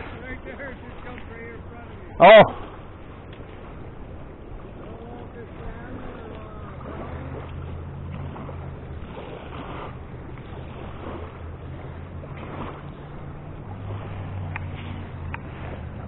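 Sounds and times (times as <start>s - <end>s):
low steady hum: 0.0s - 16.0s
river water flowing: 0.0s - 16.0s
wind: 0.0s - 16.0s.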